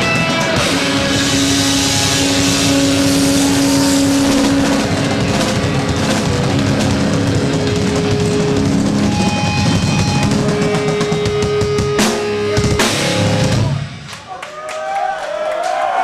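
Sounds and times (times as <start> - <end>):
heavy metal band playing: 0.0 - 14.3.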